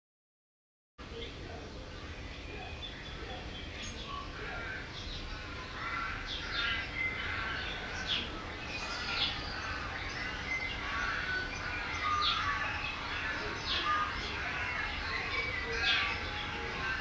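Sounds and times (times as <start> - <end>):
birdsong chirps and whistles: 1.1 - 17.0.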